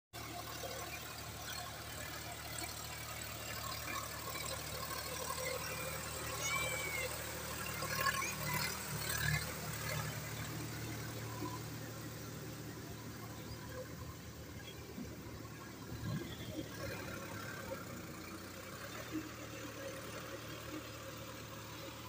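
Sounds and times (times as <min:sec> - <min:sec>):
tractor diesel engine running: 0:00.1 - 0:22.0.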